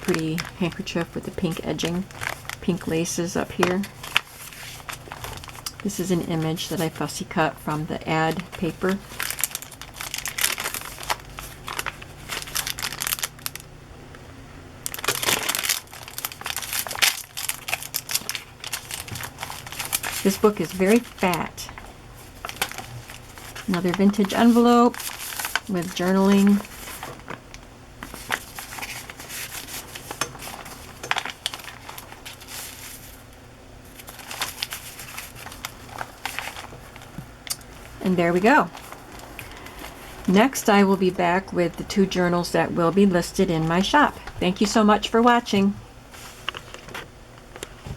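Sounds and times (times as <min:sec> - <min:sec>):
paper pages rustling: 0:00.0 - 0:13.6, 0:14.8 - 0:40.6, 0:46.1 - 0:47.9.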